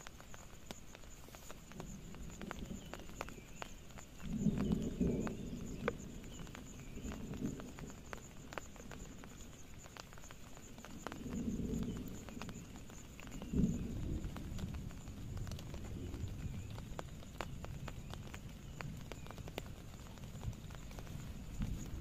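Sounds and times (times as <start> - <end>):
raindrops tapping on a tarp: 0.0 - 22.0.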